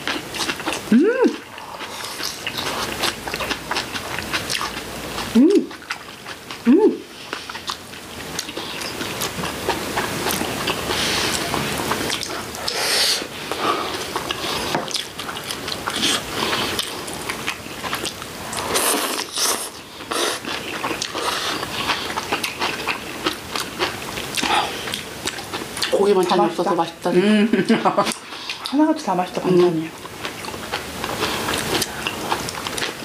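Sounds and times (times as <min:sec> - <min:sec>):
people chewing food: 0:00.0 - 0:33.0.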